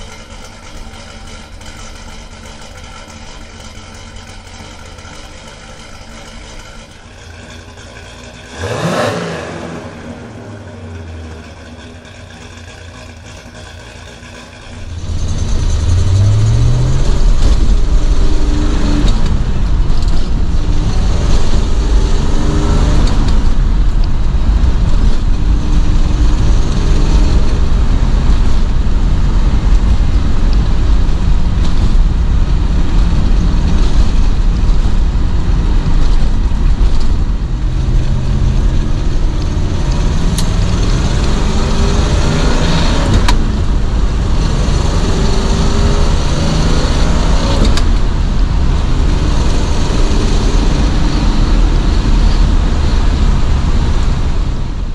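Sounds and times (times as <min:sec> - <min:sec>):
car engine accelerating: 0:00.0 - 0:54.9
road noise: 0:00.0 - 0:54.9.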